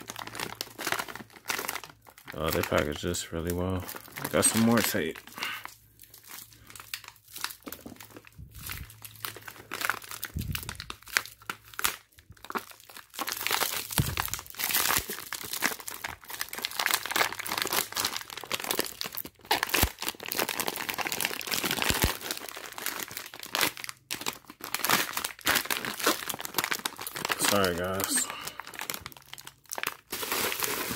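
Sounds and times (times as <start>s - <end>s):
plastic wrap crinkling: 0.0s - 30.9s.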